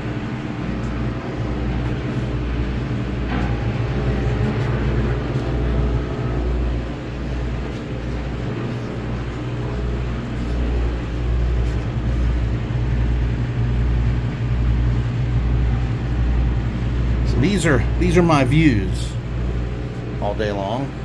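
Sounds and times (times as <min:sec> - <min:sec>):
heavy machinery rumbling: 0:00.0 - 0:21.0.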